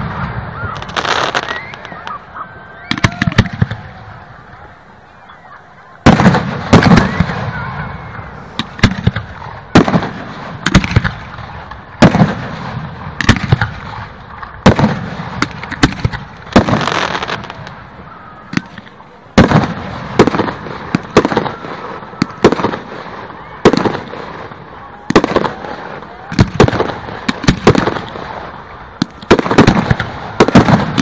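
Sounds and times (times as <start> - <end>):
faint crowd voices: 0.0 - 31.0
fireworks booming and crackling: 0.0 - 31.0.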